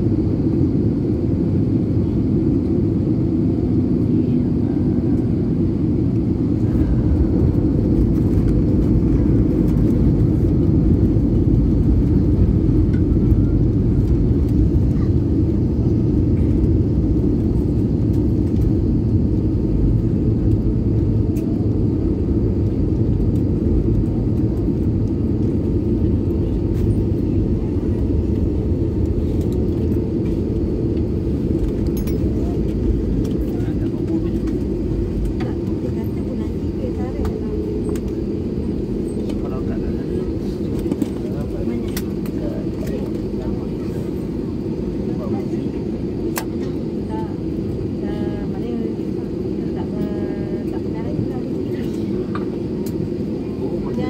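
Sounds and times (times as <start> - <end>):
aircraft cabin rumble on landing: 0.0 - 54.0.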